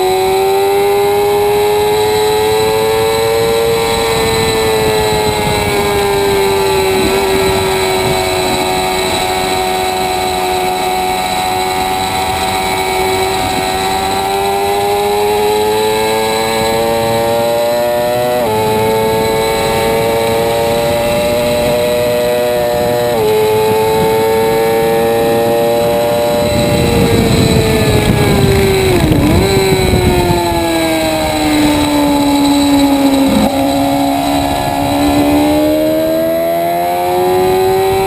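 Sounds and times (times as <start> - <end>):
motorcycle engine revving: 0.0 - 38.0
wind noise: 0.0 - 38.0.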